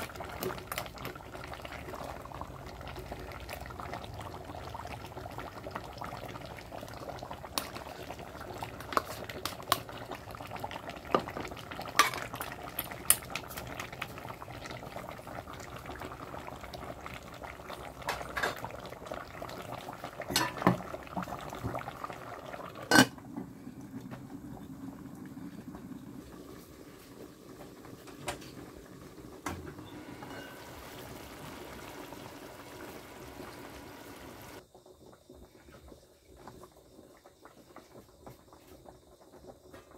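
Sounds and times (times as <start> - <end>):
curry bubbling in a pot: 0.0 - 39.9.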